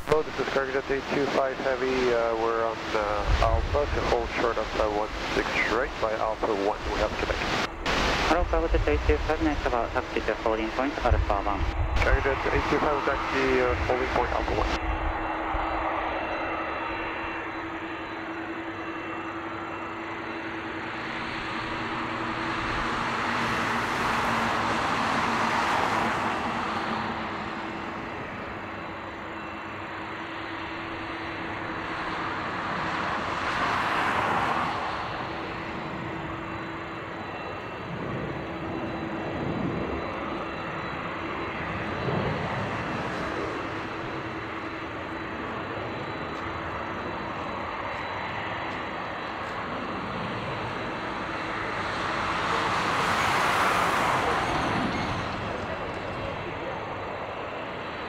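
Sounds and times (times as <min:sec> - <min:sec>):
jet engines humming: 0:00.0 - 0:58.0
rushing noise: 0:00.0 - 0:58.0.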